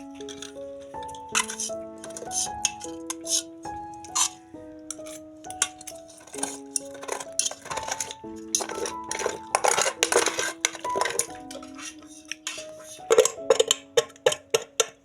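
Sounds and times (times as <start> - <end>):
cutlery scraping and clinking on dishes: 0.0 - 15.0.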